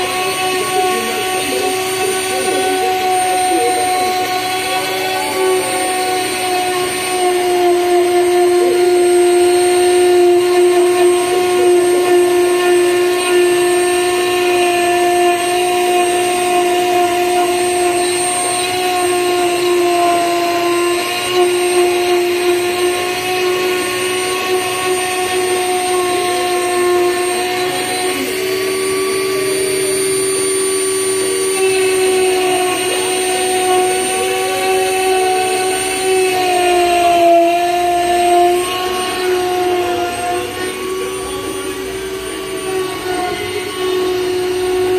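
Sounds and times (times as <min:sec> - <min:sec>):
bit cutting wood: 0:00.0 - 0:44.9
router motor whine: 0:00.0 - 0:44.9.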